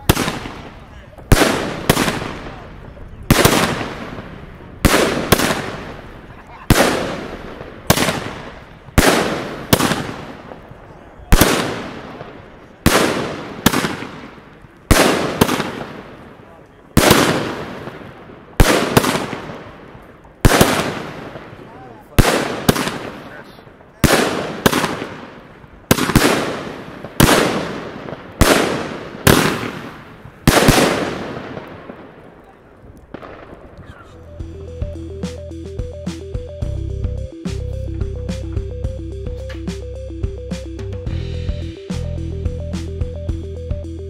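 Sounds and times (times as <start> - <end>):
fireworks bangs: 0.0 - 36.7.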